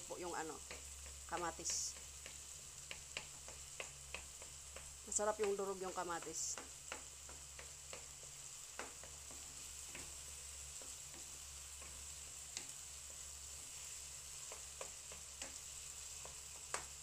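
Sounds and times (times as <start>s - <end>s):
vegetables sizzling in oil: 0.0s - 17.0s
spatula tapping and scraping pan: 0.4s - 17.0s.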